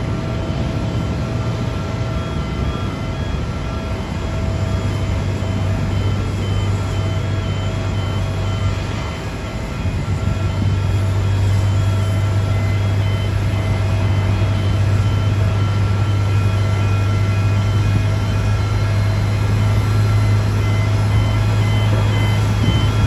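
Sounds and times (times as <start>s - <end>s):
low engine drone: 0.0s - 23.0s
short high warning beeps: 1.3s - 23.0s.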